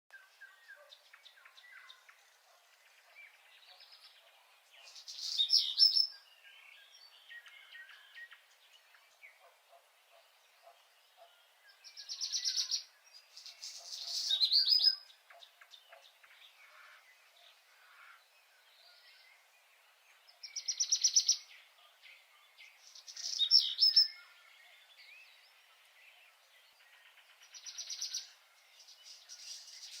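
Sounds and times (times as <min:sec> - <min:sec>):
faint birds chirping: 0:00.1 - 0:30.0.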